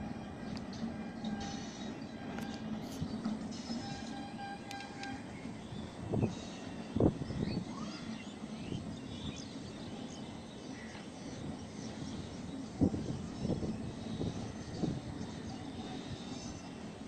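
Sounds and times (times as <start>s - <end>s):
distant train rumble: 0.0s - 17.0s
birds chirping: 0.1s - 17.0s.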